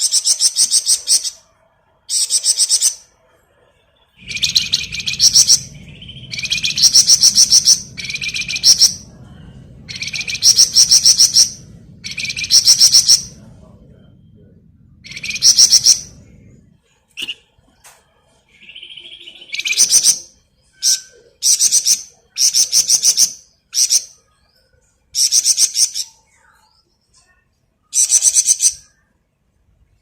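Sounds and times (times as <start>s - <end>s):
bird trilling song: 0.0s - 3.1s, 3.7s - 16.6s, 18.4s - 29.1s.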